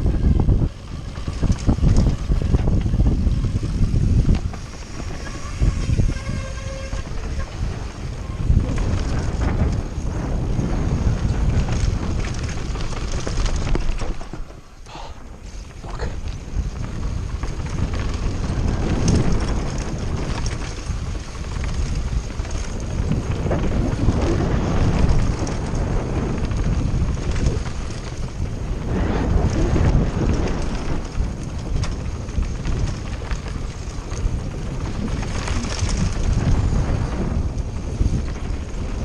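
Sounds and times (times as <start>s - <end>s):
mountain bike rumble: 0.0s - 39.0s
wind buffeting microphone: 0.0s - 39.0s.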